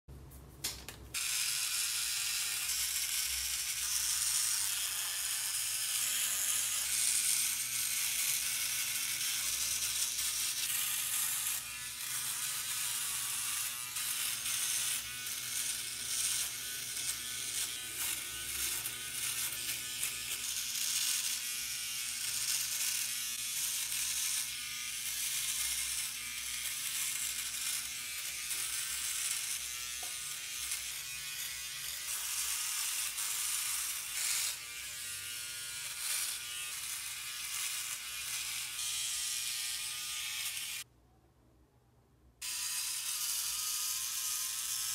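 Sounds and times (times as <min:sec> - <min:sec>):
electric trimmer buzzing: 0:01.1 - 0:40.9, 0:42.4 - 0:44.9.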